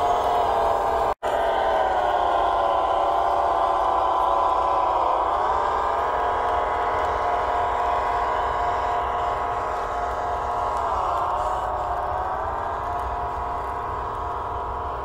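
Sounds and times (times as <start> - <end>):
toy tractor mechanical whine: 0.0 - 15.0.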